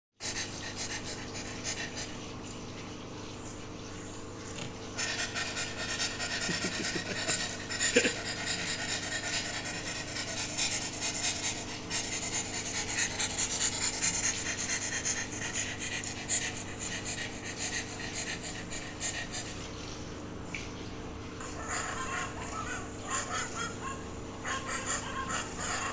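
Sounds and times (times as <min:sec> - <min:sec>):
dog panting: 0:00.2 - 0:02.9, 0:04.5 - 0:20.0, 0:21.4 - 0:25.9.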